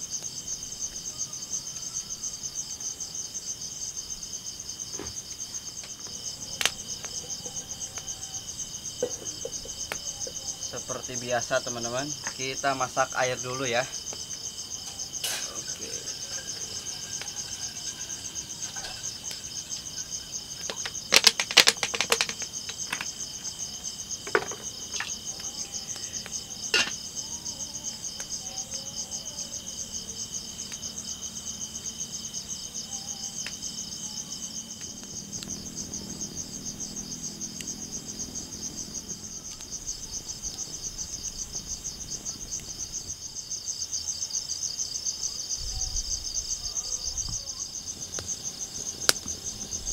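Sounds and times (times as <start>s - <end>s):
night insects trilling: 0.0s - 49.9s.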